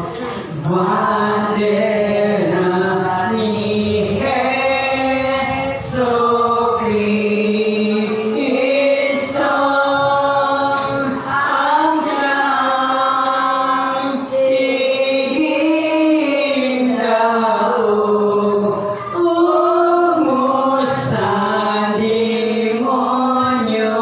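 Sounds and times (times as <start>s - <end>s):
women singing a hymn: 0.0s - 24.0s.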